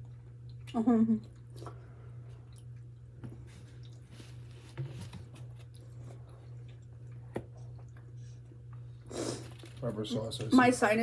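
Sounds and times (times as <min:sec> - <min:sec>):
person chewing food: 0:00.0 - 0:09.8.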